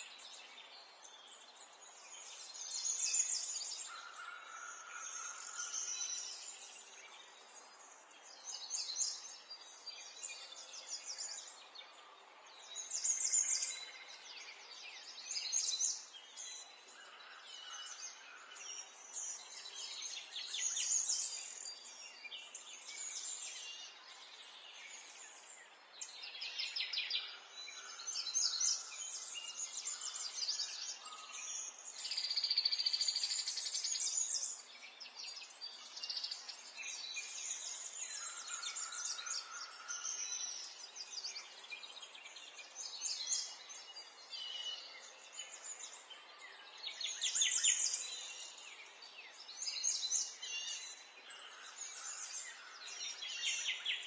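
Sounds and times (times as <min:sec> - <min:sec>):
songbirds singing trills: 0:00.0 - 0:54.0.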